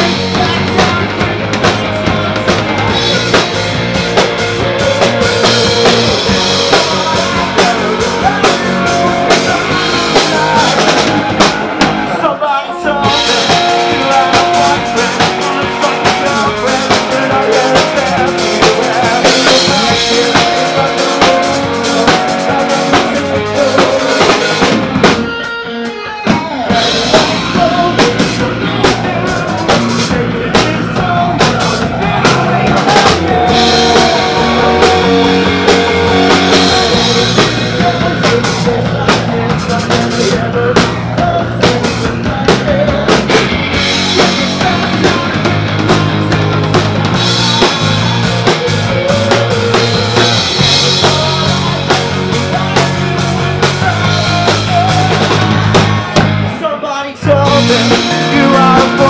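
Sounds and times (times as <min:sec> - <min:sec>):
bass guitar: 0:00.0 - 0:59.0
drum kit: 0:00.0 - 0:59.0
electric guitars: 0:00.0 - 0:59.0.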